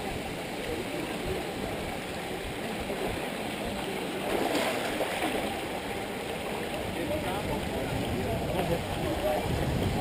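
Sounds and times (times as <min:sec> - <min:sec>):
faint voices: 0:00.0 - 0:10.0
water rushing and splashing: 0:00.0 - 0:10.0.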